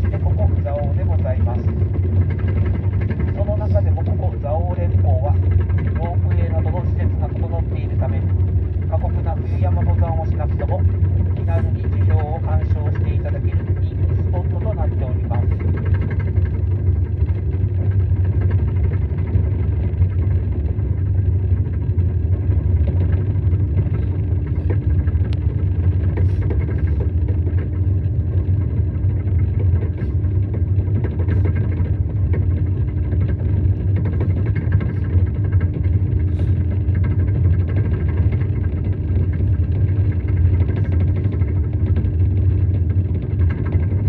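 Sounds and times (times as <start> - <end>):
steady hum: 0.0 - 44.0
vehicle rumbling in motion: 0.0 - 44.0.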